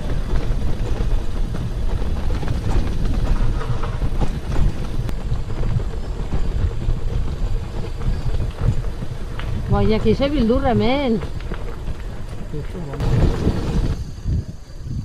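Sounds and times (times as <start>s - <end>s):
bicycle tyres rumbling on gravel: 0.0s - 15.0s
wind buffeting microphone: 0.0s - 15.0s.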